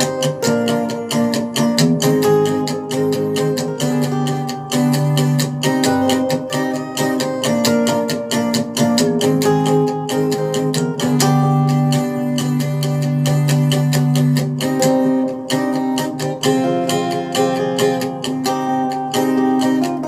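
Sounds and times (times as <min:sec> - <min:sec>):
strummed acoustic guitar: 0:00.0 - 0:20.0.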